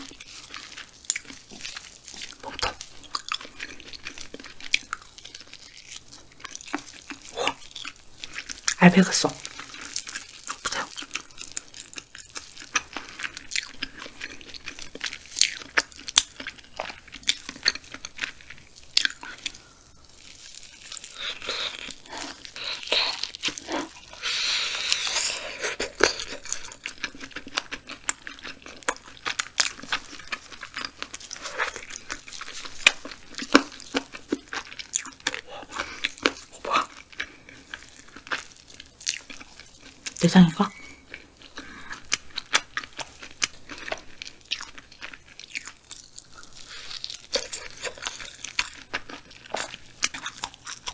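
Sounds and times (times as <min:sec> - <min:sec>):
crunching and chewing: 0:00.0 - 0:50.9.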